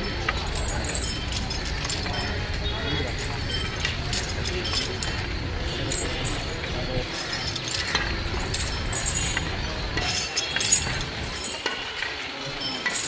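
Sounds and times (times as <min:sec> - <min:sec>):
metallic clinks and jingles: 0:00.0 - 0:13.0.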